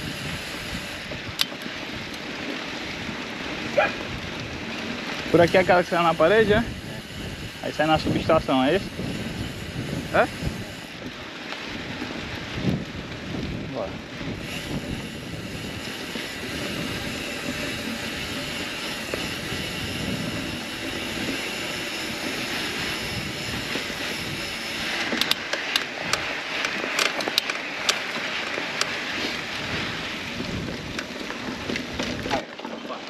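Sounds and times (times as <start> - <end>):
wind on microphone: 0.0 - 32.4
bike clicks and rattles: 0.0 - 33.0
bike tyre noise: 0.0 - 33.0.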